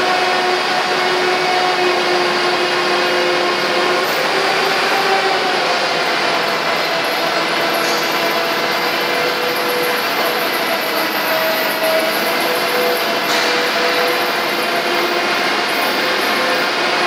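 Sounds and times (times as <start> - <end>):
steel pipe mill running: 0.0 - 17.0.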